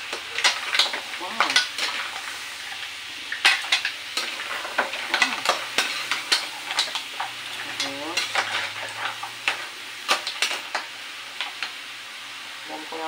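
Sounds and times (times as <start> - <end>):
food sizzling in pan: 0.0 - 13.0.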